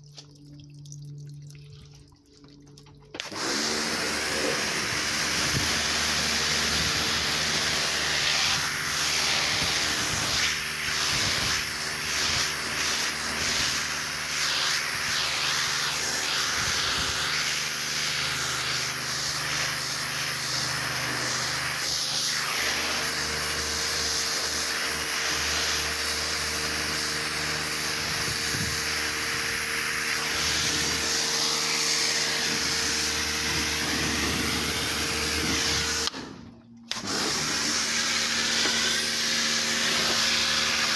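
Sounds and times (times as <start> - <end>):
pressure washer motor hum: 2.8 - 40.9.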